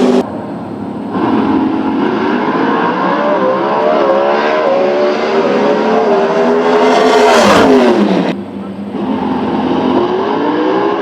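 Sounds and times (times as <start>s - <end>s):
race car engine at full throttle: 0.0s - 11.0s.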